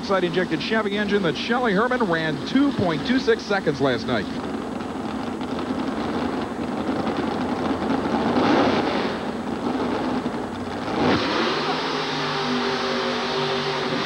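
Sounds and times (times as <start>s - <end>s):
engine at full throttle: 0.0s - 14.0s
sharp exhaust bang: 0.0s - 14.0s.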